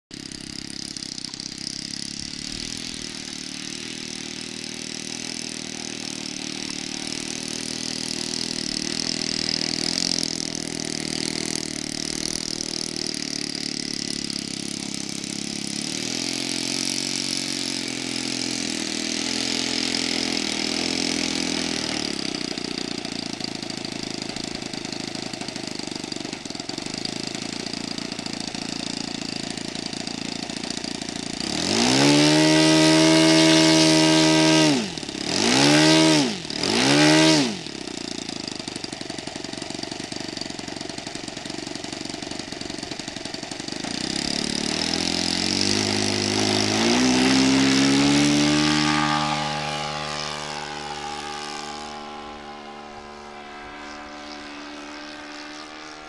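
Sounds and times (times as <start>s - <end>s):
model airplane engine running: 0.1s - 56.0s.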